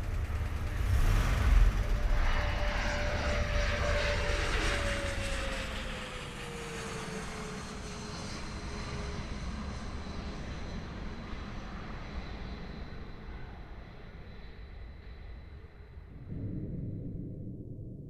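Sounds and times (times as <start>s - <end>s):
aircraft passing overhead: 0.0s - 16.4s.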